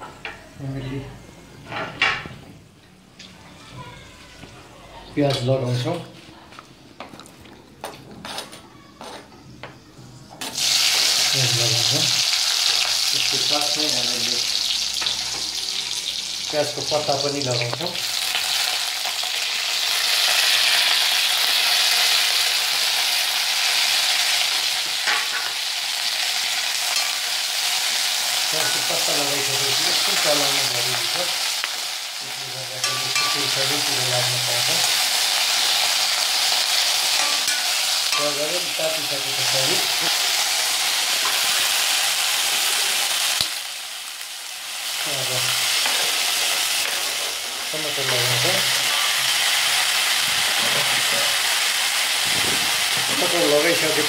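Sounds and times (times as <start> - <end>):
onions sizzling in hot oil: 10.4 - 54.0.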